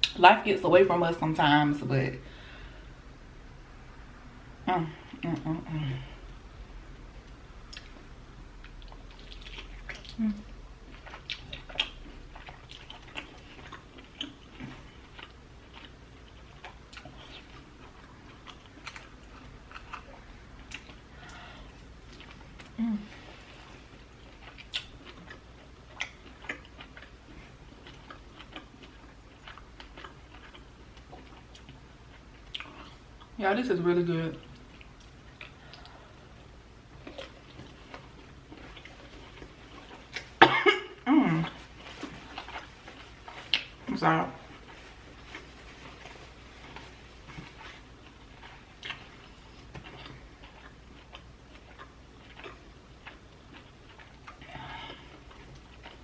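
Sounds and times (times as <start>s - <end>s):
person chewing: 6.9s - 33.4s, 34.4s - 56.0s.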